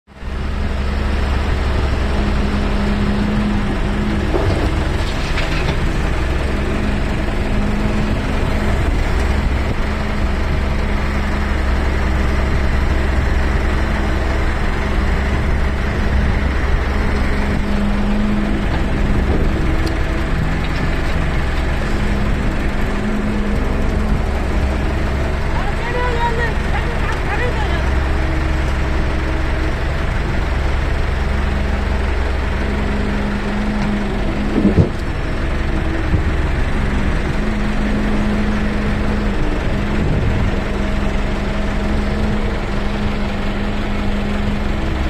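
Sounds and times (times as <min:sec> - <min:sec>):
excavator diesel engine droning: 0:00.1 - 0:45.0.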